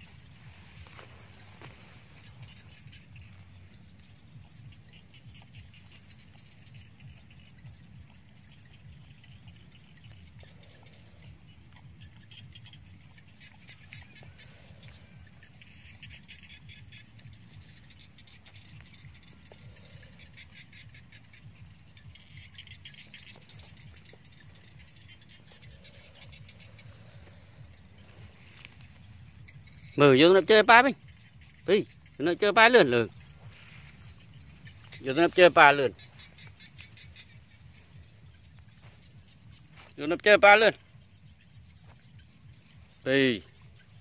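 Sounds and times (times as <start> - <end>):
steady low rumble: 0.0 - 30.2, 31.0 - 40.0
rapid high chirping trills: 0.0 - 44.0.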